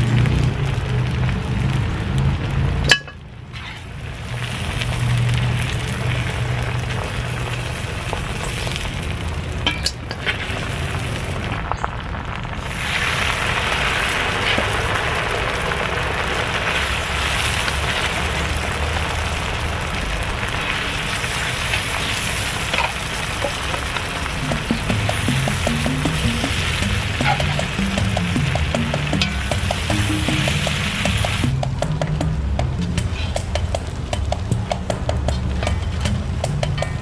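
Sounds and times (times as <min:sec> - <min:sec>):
chicken sizzling in oil: 0:00.0 - 0:37.0.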